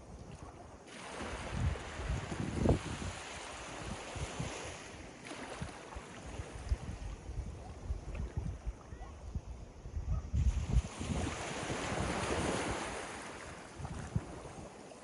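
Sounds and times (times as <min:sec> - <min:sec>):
surf washing onto beach: 0:00.8 - 0:08.6, 0:10.4 - 0:15.0
wind buffeting microphone: 0:01.2 - 0:04.9, 0:05.5 - 0:14.8.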